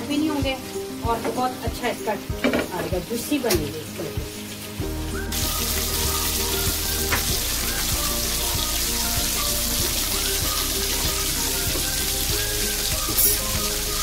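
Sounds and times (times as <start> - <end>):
kebabs sizzling in oil: 0.0 - 14.0.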